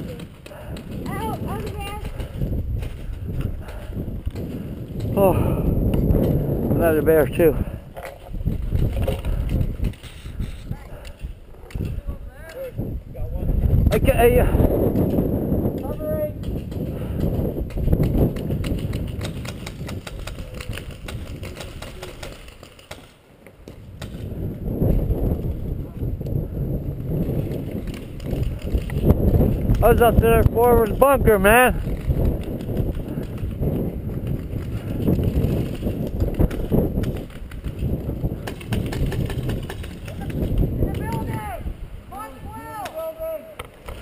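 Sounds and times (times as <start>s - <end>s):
wind on microphone: 0.0s - 22.6s, 23.7s - 44.0s.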